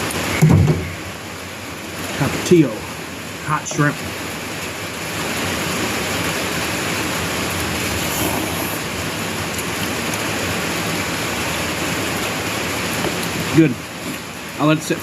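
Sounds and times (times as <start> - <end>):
heavy rain on a roof: 0.0 - 15.0.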